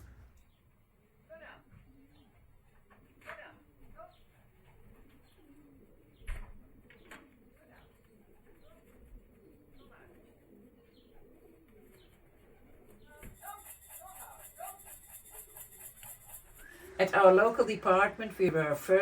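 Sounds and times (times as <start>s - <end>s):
pigeons cooing: 1.8s - 18.5s.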